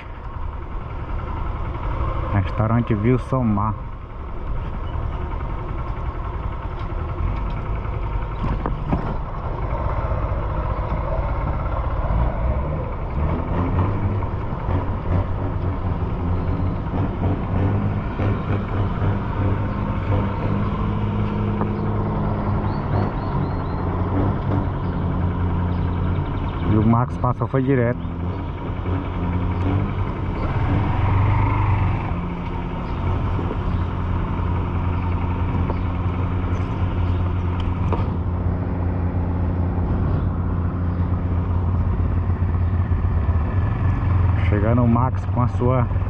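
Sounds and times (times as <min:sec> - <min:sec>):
street traffic: 0:00.0 - 0:46.0
vehicle engine humming: 0:00.0 - 0:46.0.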